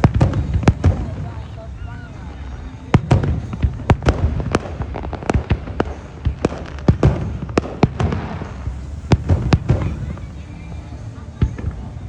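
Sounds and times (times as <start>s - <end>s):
fireworks banging: 0.0s - 12.0s
low rumble: 0.0s - 12.0s.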